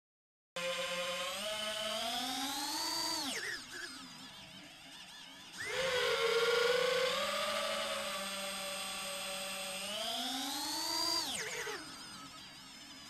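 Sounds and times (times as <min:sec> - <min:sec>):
drone motors whining: 0:00.6 - 0:13.0.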